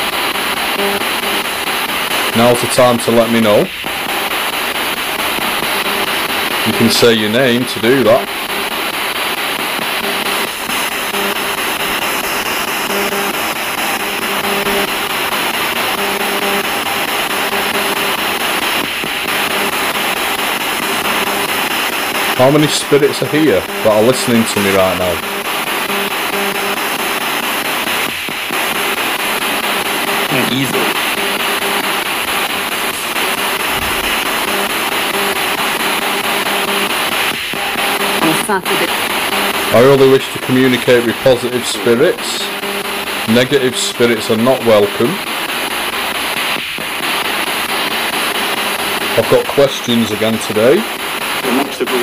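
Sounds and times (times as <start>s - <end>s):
chopped radio broadcast snatches: 0.0s - 52.0s
radio static hiss: 0.0s - 52.0s.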